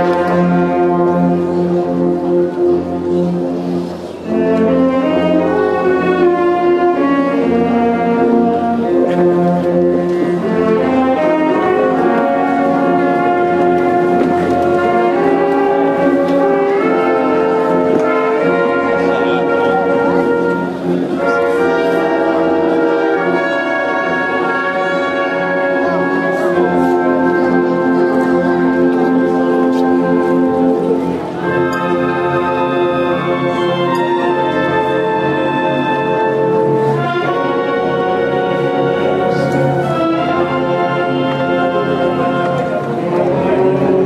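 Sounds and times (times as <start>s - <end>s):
concert wind band playing: 0.0s - 44.0s.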